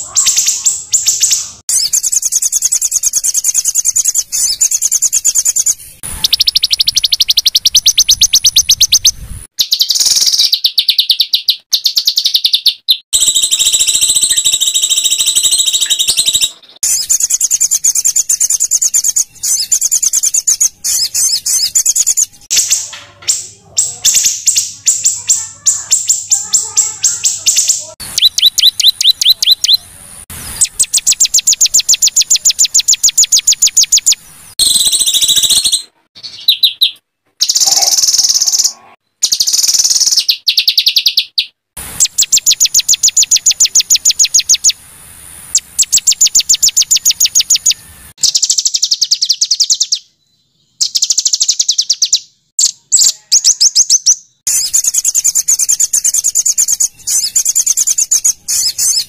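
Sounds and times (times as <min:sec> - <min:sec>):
songbirds singing sharp high notes: 0:00.0 - 0:59.0.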